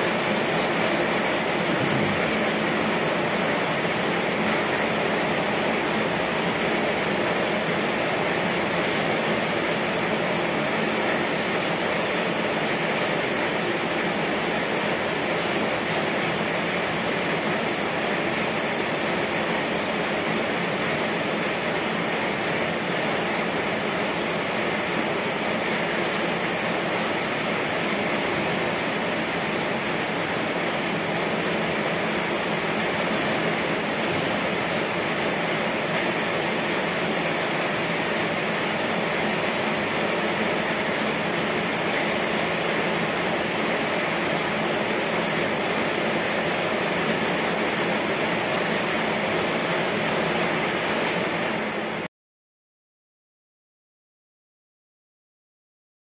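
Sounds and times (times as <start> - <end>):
rain falling steadily: 0.0 - 52.1.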